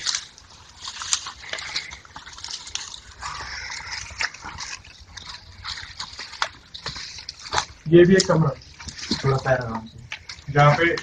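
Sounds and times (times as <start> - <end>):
cloth rustling against microphone: 0.0 - 11.0
light clicks and crackles: 0.0 - 11.0.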